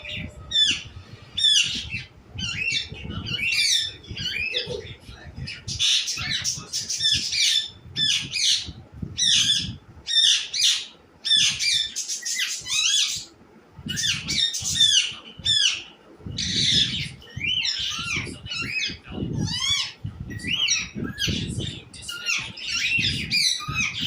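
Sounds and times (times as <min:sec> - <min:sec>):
bird squawking and chirping: 0:00.0 - 0:24.0.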